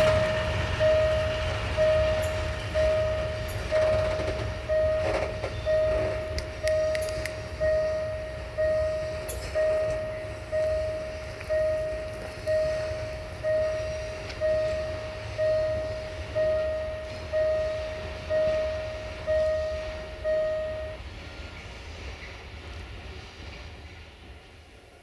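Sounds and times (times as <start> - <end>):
level crossing bell ringing: 0.0 - 21.1
low rumble: 0.0 - 21.3.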